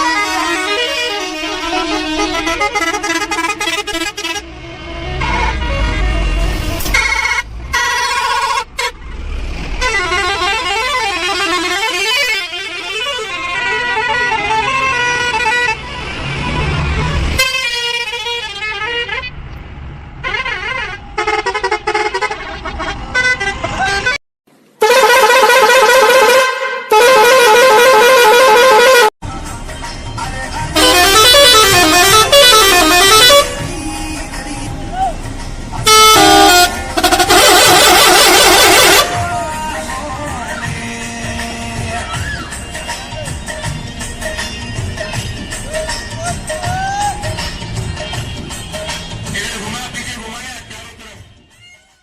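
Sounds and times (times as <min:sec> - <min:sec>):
bus horn warbling blasts: 0:00.0 - 0:19.5, 0:20.2 - 0:24.2, 0:24.8 - 0:29.2, 0:30.7 - 0:34.3, 0:35.7 - 0:51.6.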